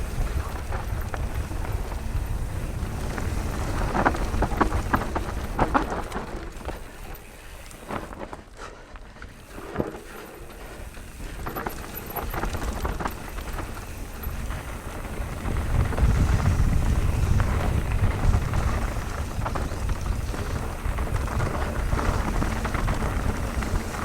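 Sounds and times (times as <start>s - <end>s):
bike tyres rolling over loose ground: 0.0s - 24.0s.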